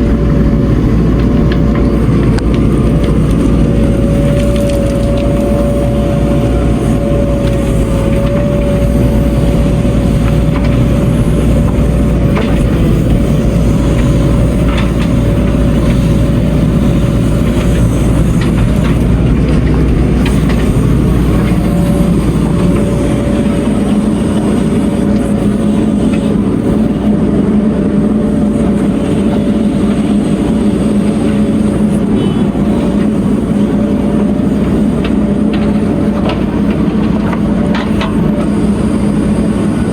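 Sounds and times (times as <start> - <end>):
diesel machinery engine rumbling: 0.0 - 39.9
low hum: 0.0 - 39.9.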